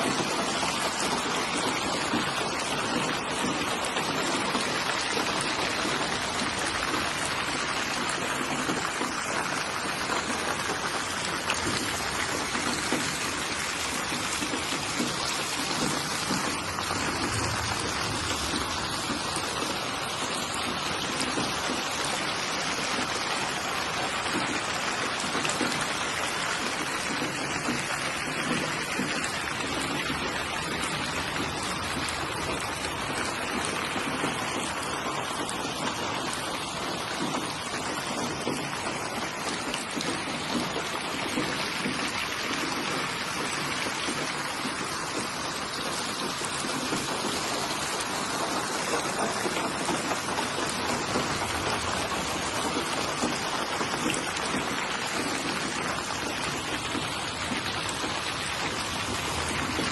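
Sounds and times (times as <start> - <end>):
steady rain pattering: 0.0 - 59.9.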